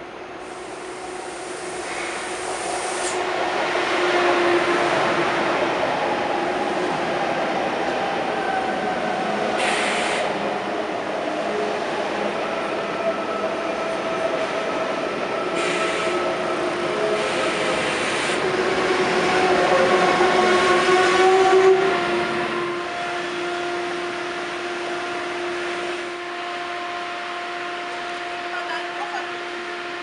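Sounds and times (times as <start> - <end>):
high-speed train whining: 0.0 - 30.0.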